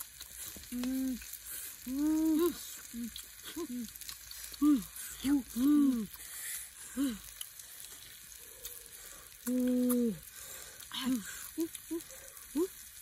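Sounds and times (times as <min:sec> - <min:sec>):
meat and vegetables sizzling: 0:00.0 - 0:13.0.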